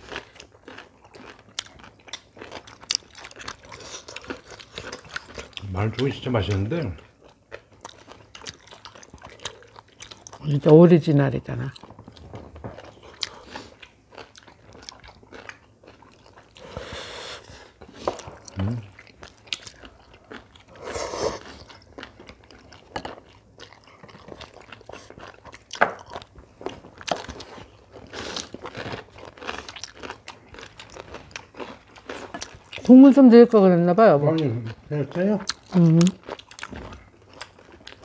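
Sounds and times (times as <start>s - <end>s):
people chewing crisp food: 0.0s - 38.0s.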